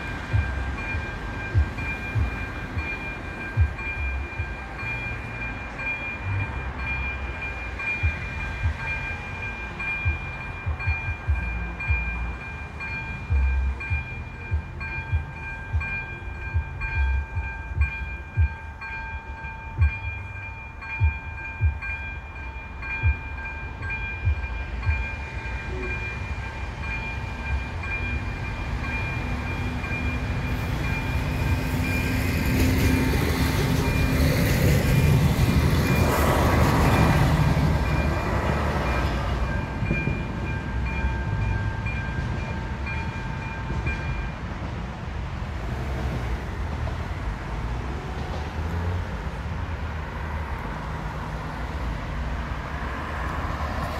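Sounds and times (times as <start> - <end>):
level crossing warning bell: 0.0 - 44.9
approaching train: 0.0 - 53.9.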